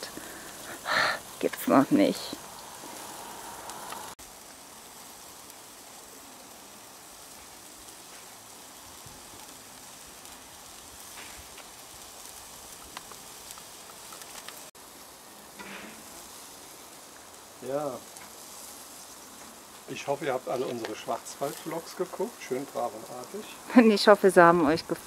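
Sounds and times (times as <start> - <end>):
meat sizzling on a grill: 0.0 - 25.0
small pops and crackles: 2.3 - 14.8, 15.6 - 23.5.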